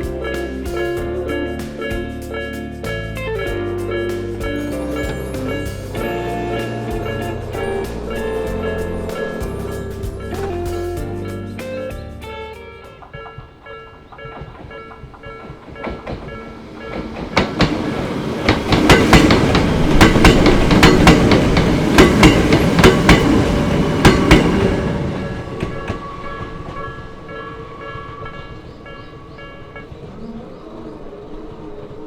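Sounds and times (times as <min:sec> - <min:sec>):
train wheels clacking: 0:00.0 - 0:30.3
crossing warning bell ringing: 0:00.0 - 0:30.6.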